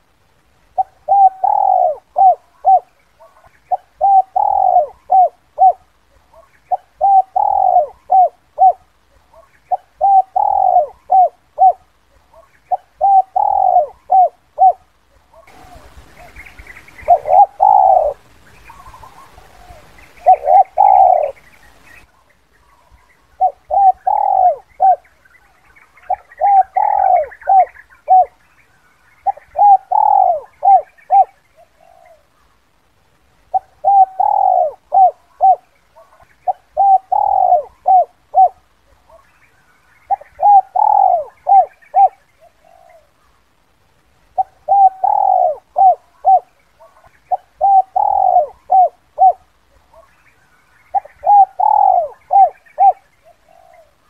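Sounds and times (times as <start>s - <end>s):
dove cooing: 0.7s - 28.5s, 29.2s - 32.5s, 33.5s - 43.4s, 44.3s - 50.2s, 50.8s - 54.0s.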